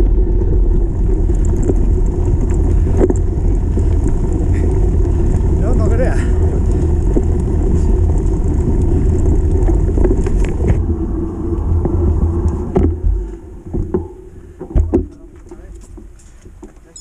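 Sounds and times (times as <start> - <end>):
wind buffeting and trail rattle: 0.0 - 17.0.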